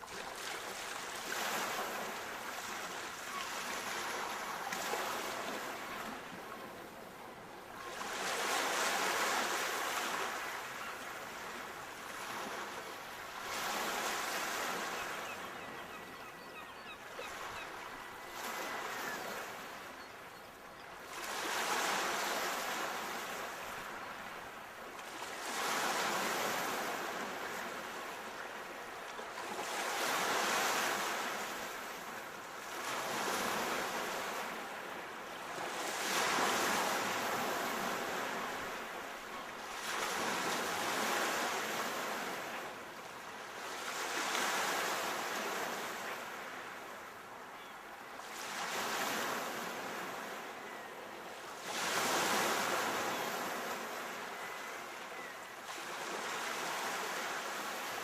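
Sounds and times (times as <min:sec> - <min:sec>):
sea waves breaking on shore: 0:00.0 - 0:20.1, 0:21.0 - 0:47.3, 0:48.1 - 0:58.0.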